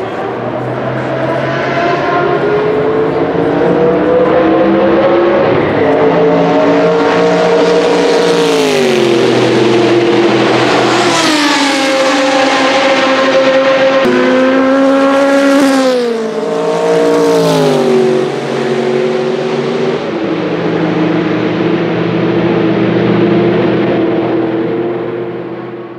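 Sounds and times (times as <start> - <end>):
race car passing at speed: 0.0 - 25.9.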